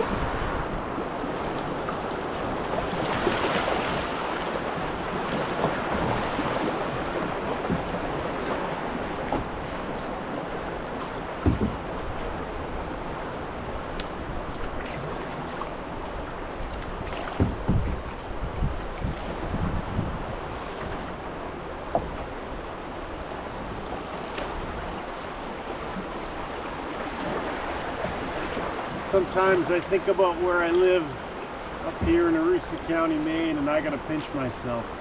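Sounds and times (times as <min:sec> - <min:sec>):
paddle knocking on hull: 0:00.0 - 0:12.9, 0:13.9 - 0:30.8, 0:31.7 - 0:33.1
river water rushing: 0:00.0 - 0:35.0.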